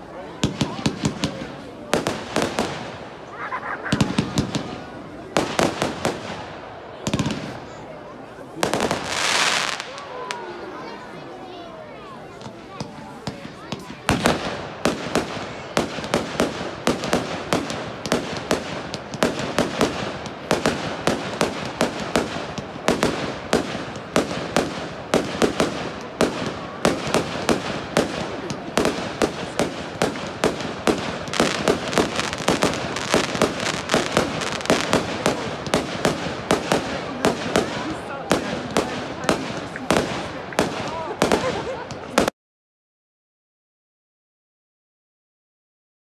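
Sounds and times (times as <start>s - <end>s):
fireworks bursting: 0.0s - 11.2s, 12.2s - 42.3s
fireworks crackling: 0.0s - 42.3s.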